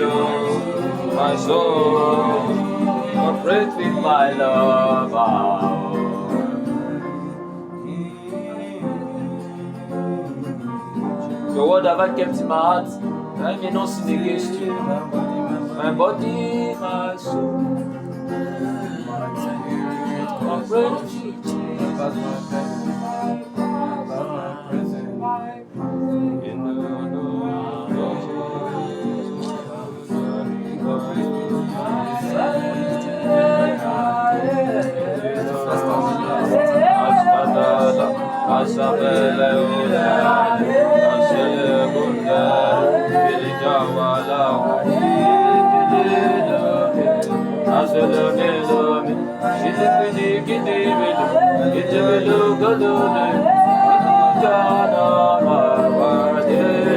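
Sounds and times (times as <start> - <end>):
held keyboard chords: 0.0 - 56.8
guitar: 0.0 - 56.9
person singing wordless melody: 0.0 - 56.9.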